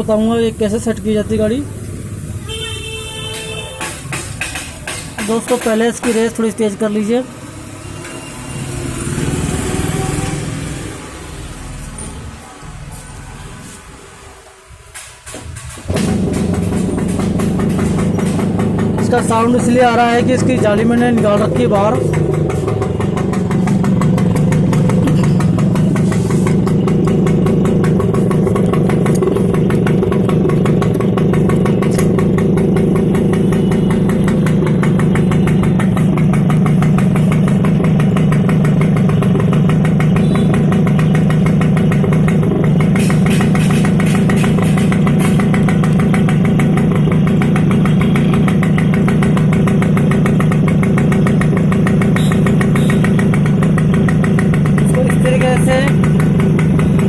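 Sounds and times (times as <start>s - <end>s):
moped engine idling loudly: 0.0s - 7.8s, 15.9s - 57.0s.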